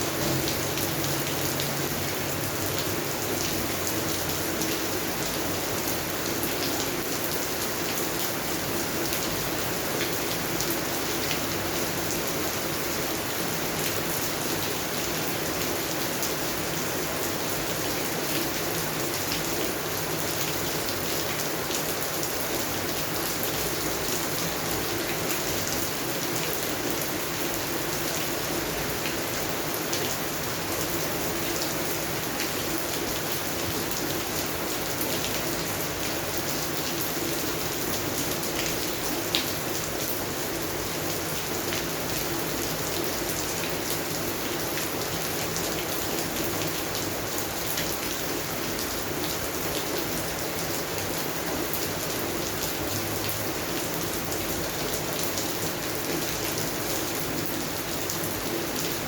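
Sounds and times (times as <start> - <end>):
rain falling on plants: 0.0 - 59.0.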